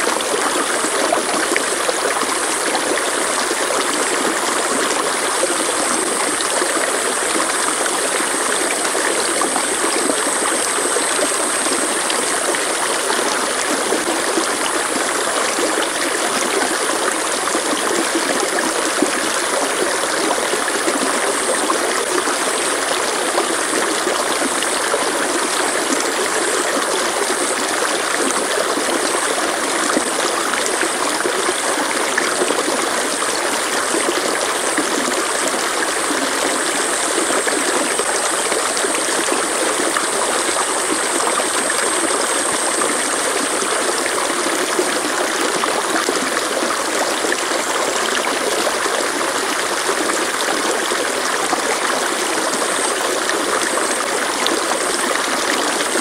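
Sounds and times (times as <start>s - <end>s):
stream water rushing and babbling: 0.0s - 56.0s.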